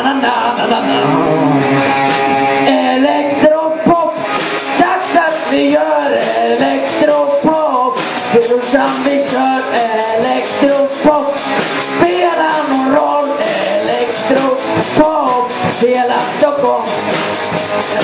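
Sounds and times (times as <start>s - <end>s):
rock song with lead vocal: 0.0s - 18.0s.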